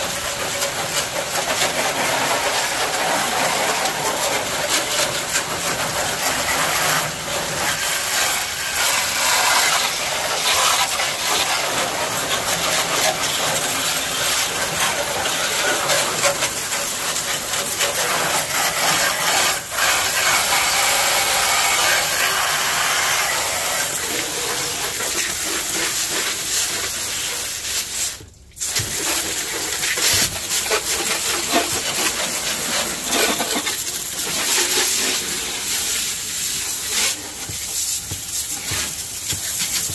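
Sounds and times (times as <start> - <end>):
water spray hissing: 0.0 - 39.9.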